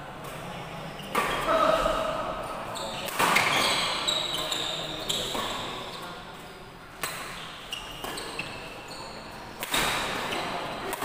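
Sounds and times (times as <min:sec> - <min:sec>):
court shoes squeaking: 0:00.2 - 0:11.0.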